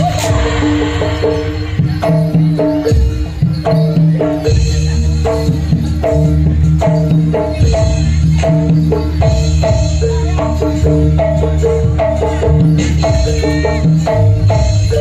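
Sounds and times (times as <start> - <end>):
low drum and bass: 0.0 - 15.0
tuned percussion pattern: 0.0 - 15.0.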